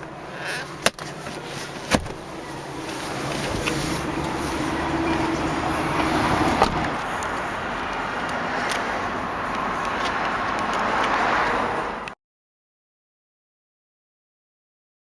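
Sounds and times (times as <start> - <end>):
motor vehicle noise: 0.0 - 12.2.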